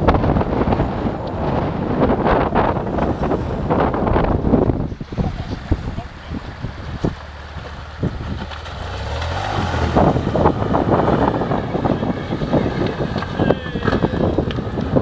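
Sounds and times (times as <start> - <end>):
motorcycle engine revving: 0.0 - 15.0
water splashing around wheels: 0.0 - 15.0
wind buffeting microphone: 0.0 - 15.0.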